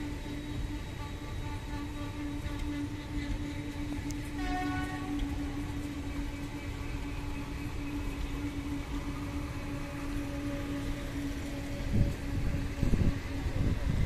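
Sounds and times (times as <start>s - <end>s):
constant hum: 0.0s - 14.0s
train coaches rumbling: 0.0s - 14.0s
train horn: 0.0s - 14.0s.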